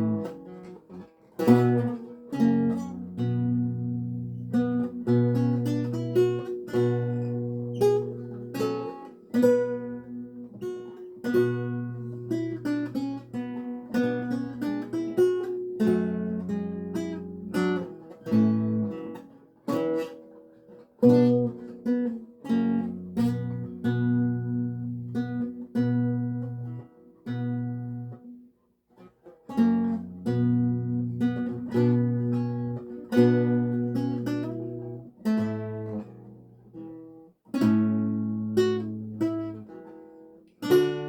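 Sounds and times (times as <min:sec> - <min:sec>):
solo lute playing: 0:00.0 - 0:41.0.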